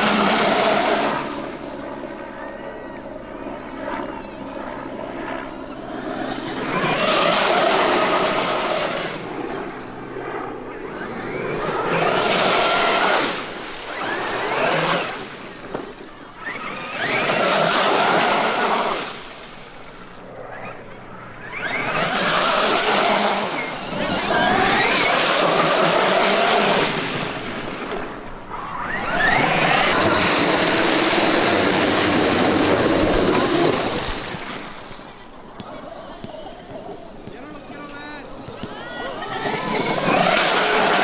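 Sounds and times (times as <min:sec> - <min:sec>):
rc truck motor and tyres: 0:00.0 - 0:41.0.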